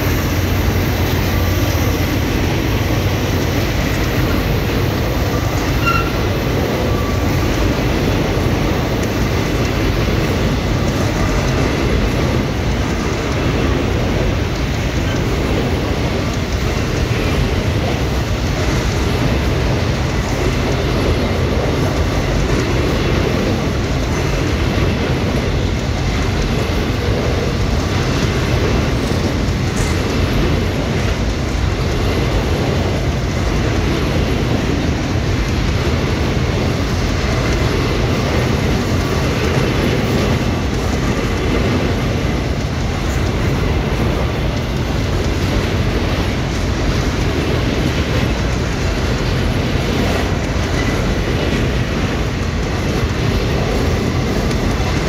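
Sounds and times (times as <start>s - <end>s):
steel train wheels on rails: 0.0s - 55.0s.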